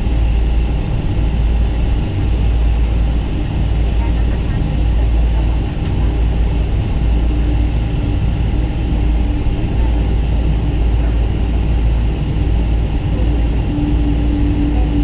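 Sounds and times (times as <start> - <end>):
airplane cabin rumble: 0.0 - 15.0
faint hum: 0.0 - 15.0.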